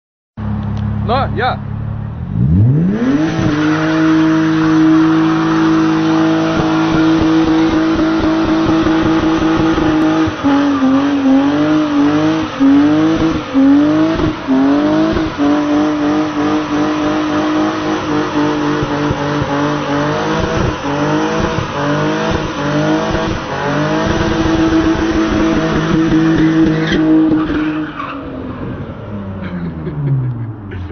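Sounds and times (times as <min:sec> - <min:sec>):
car engine revving: 0:00.4 - 0:30.9.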